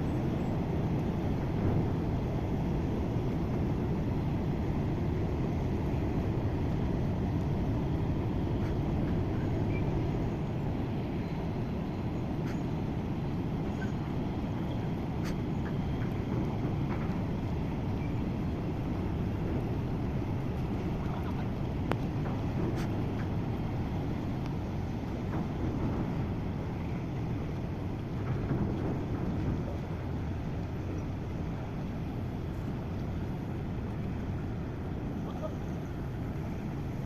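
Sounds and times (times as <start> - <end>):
ship engine rumble: 0.0 - 37.0.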